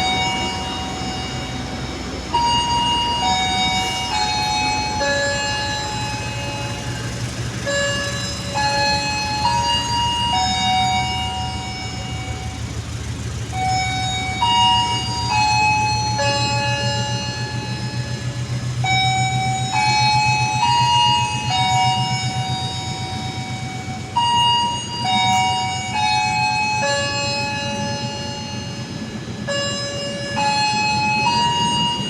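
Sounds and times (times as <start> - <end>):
idling train rumble: 0.0 - 32.0
slow electronic melody: 0.0 - 32.0.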